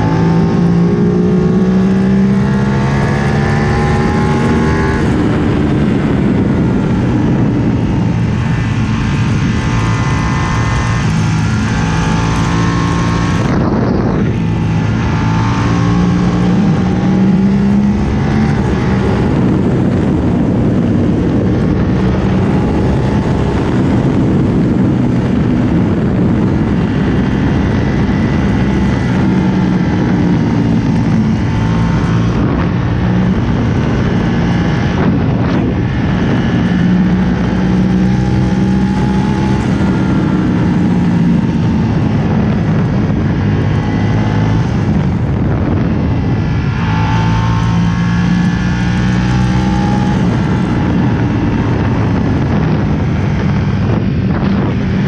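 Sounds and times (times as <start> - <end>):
motorcycle engine accelerating: 0.0 - 55.0
wind rushing: 0.0 - 55.0.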